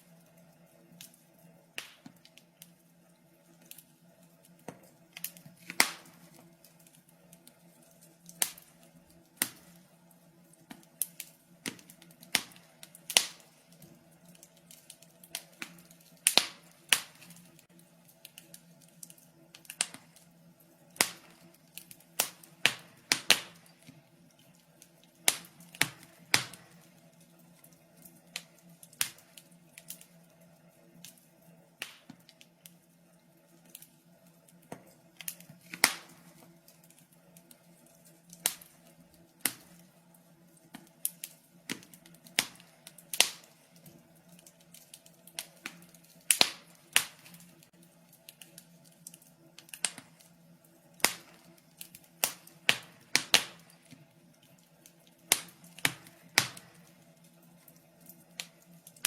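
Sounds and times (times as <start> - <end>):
faint steady hum: 0.0 - 59.0
wood fire crackling: 0.0 - 59.0.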